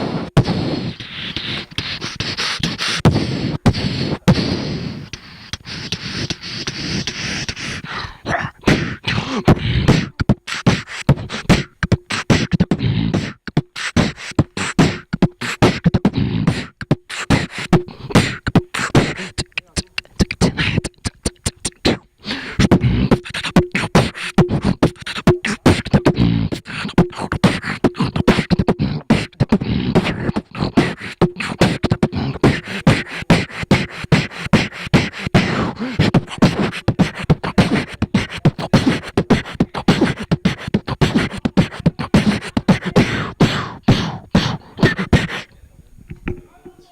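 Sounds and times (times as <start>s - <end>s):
person beatboxing: 0.0s - 46.9s.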